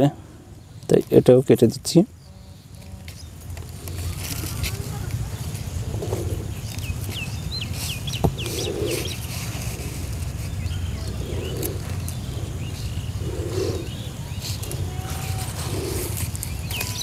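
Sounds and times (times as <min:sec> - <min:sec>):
small birds chirping: 0:00.0 - 0:17.0
steady low rumble: 0:02.1 - 0:16.8.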